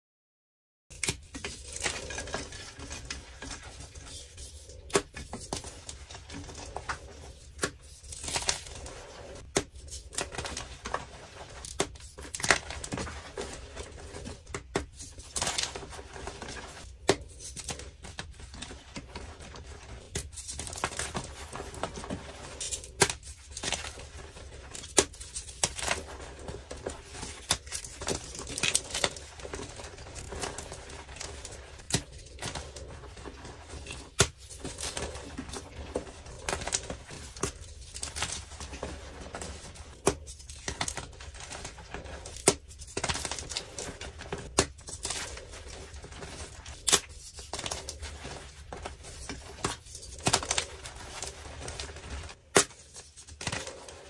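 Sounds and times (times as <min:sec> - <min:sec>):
hands crumbling chalk: 0:00.9 - 0:54.0.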